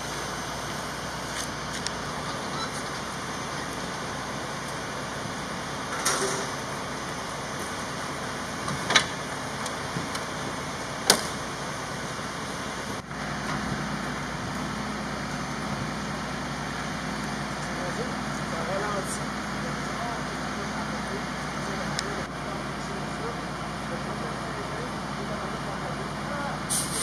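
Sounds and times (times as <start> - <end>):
low engine hum: 0.0 - 27.0
road traffic noise: 0.0 - 27.0.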